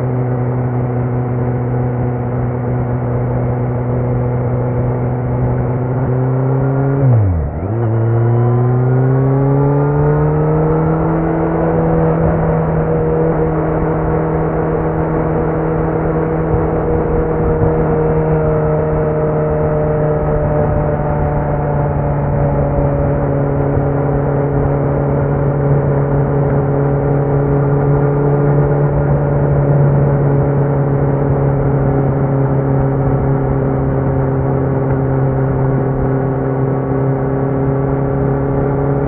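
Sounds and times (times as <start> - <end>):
motorcycle engine cruising: 0.0 - 39.0.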